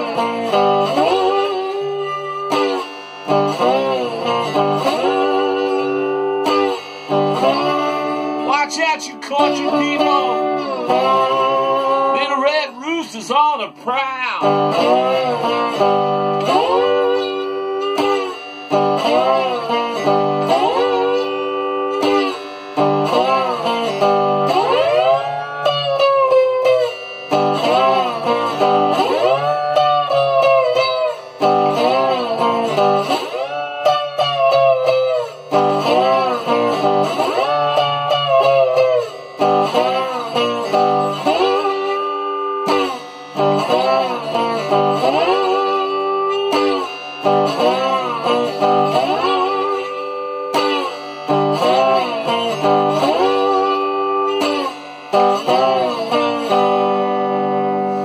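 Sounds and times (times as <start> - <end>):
slide electric guitar blues solo: 0.0 - 58.0.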